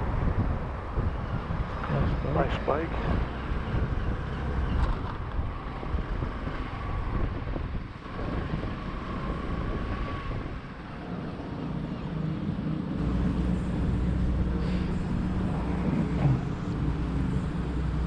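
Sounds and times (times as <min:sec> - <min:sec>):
vehicle engine and road rumble: 0:00.0 - 0:18.0
wind buffeting microphone: 0:00.0 - 0:18.0.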